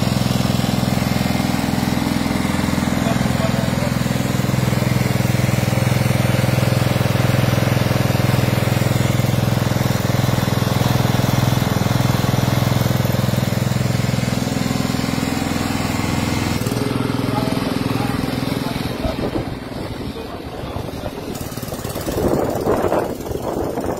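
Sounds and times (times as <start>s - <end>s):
petrol engine running steadily: 0.0s - 23.9s.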